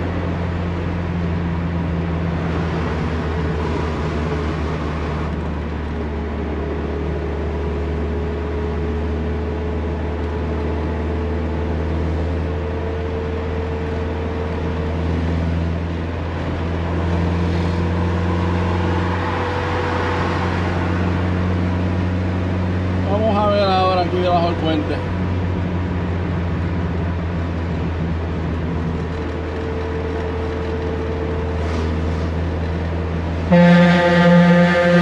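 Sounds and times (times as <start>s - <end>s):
tyre and road noise: 0.0s - 35.0s.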